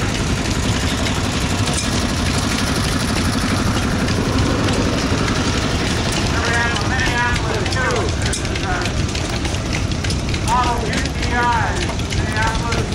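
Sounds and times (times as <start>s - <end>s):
stationary gas engine running: 0.0s - 12.9s.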